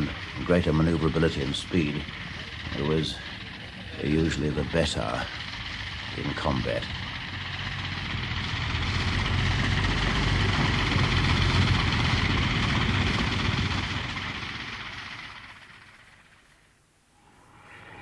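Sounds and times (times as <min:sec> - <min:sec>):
aero engine droning: 0:00.0 - 0:18.0.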